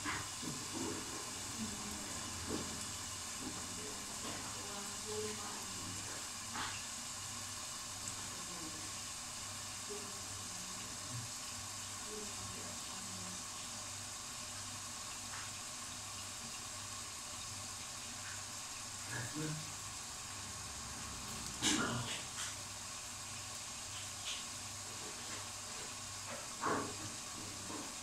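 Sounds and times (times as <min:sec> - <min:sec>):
covered pot simmering hiss: 0:00.0 - 0:28.0.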